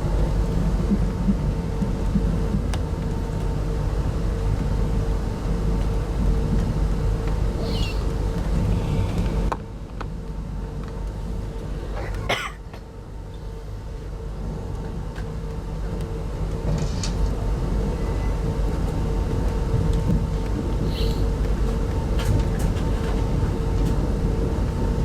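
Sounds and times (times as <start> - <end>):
steady hum: 0.0 - 22.4
train rumble inside coach: 0.0 - 25.0.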